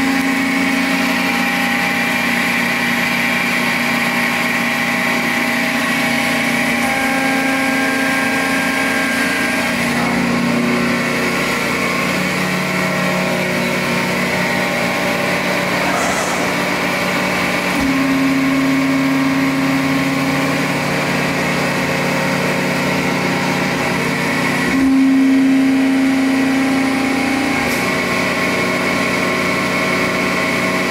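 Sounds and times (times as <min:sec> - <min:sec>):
hydraulic pump and motor running: 0:00.0 - 0:30.9.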